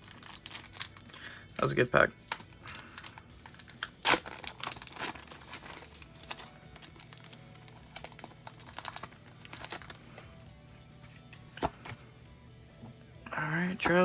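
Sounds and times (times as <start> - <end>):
cards and wrapper rustling: 0.0 - 12.9
faint background music: 0.0 - 14.0.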